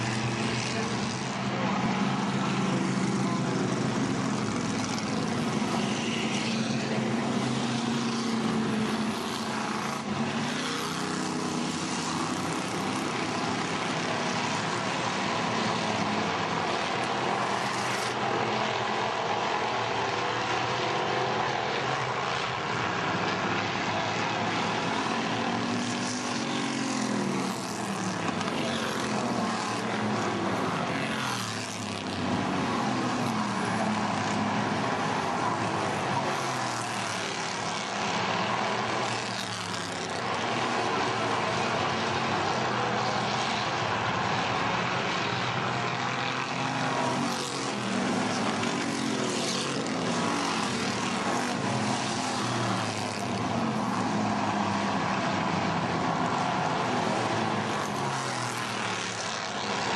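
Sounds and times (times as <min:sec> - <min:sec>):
many race car engines droning: 0:00.0 - 0:59.9.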